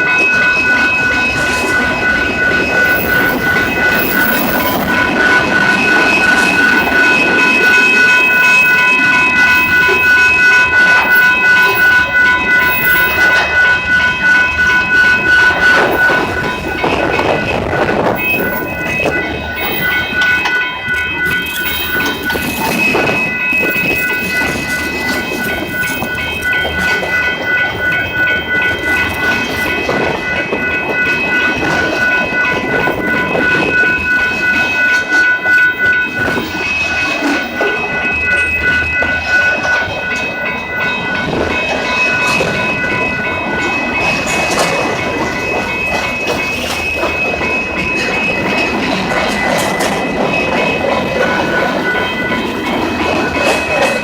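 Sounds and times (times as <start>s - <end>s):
passing train rumble and clacking: 0.0s - 54.0s.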